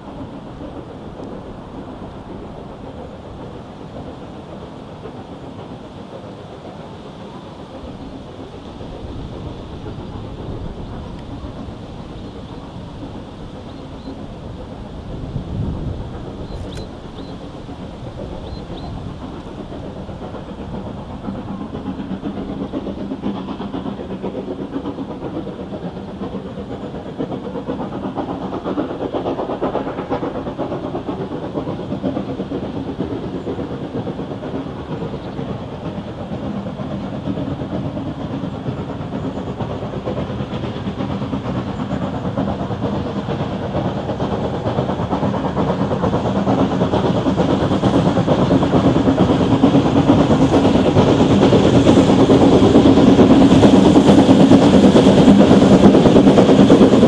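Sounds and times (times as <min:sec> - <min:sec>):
steam locomotive running: 0:00.0 - 0:57.0
wheel noise on track: 0:00.0 - 0:57.0.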